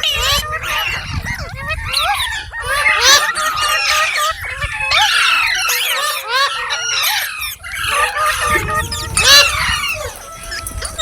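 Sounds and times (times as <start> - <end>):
parrots chirping and screeching: 0.0 - 11.0.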